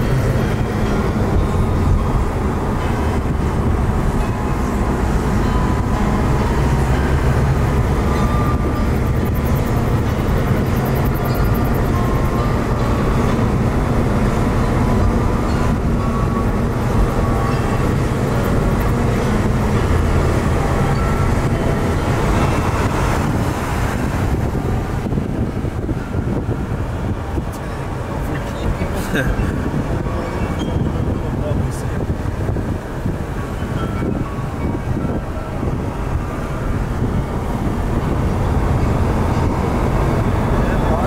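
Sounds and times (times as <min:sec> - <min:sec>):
car cabin road noise: 0:00.0 - 0:41.0.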